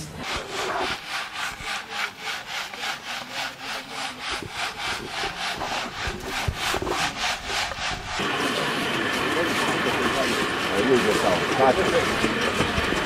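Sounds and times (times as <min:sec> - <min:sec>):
sieve rasping back and forth: 0:00.0 - 0:13.0.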